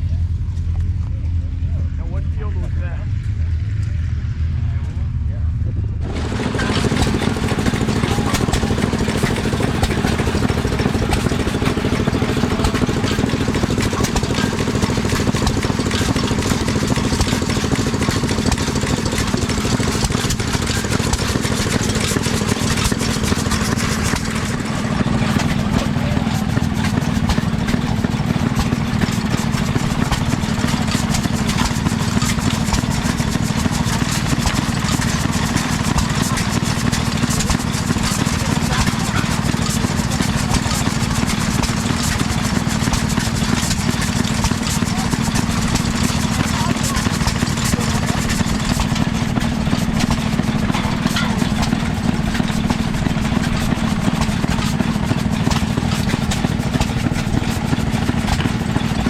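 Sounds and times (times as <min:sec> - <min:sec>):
engine idling fast: 0:00.0 - 0:59.0.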